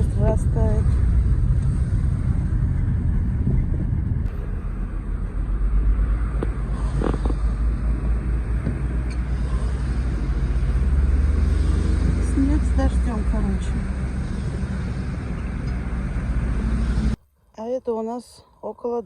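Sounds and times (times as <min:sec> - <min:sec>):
car engine and tyres rumbling: 0:00.0 - 0:17.4.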